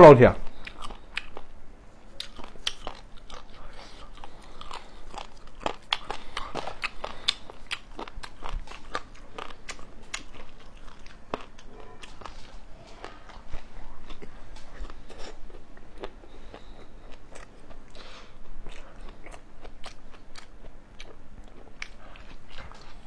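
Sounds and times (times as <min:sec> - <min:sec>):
crunchy chewing: 0:00.4 - 0:23.0.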